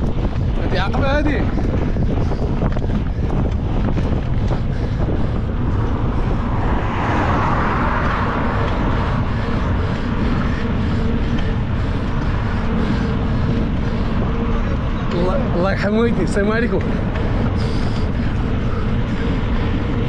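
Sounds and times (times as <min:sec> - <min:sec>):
highway road noise: 0:00.0 - 0:20.0
wind rushing over microphone: 0:00.0 - 0:20.0.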